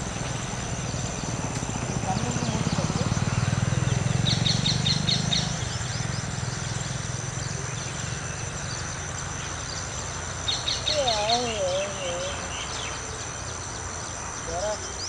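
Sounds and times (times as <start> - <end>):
high insect drone: 0.0 - 15.0
small bird chirps: 2.0 - 15.0.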